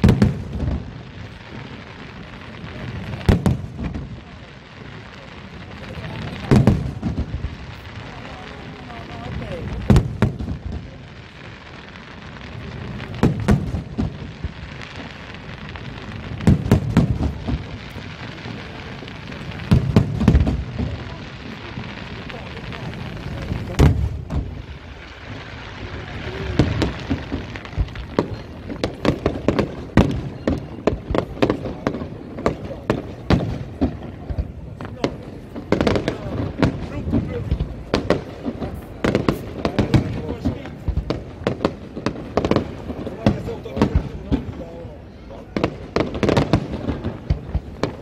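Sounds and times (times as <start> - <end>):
firework booms: 0.0 - 48.0
firework crackling: 0.0 - 48.0
sharp firework reports: 0.0 - 48.0.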